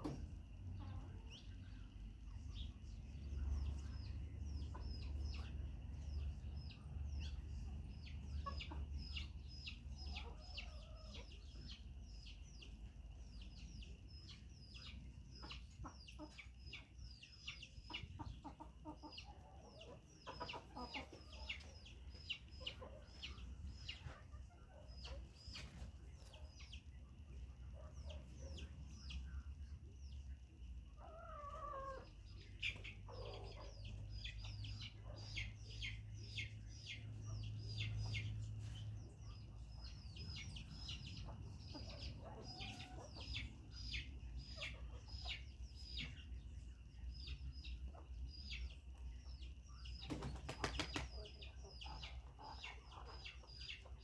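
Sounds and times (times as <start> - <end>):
chickens clucking: 0.0 - 54.0
chicks peeping: 0.0 - 54.0.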